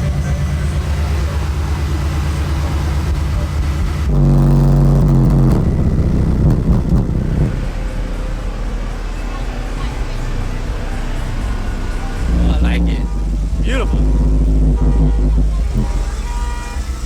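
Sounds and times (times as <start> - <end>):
deep held bass note: 0.0 - 8.9, 10.6 - 17.0
loud pulsing subwoofer bass: 0.0 - 17.0.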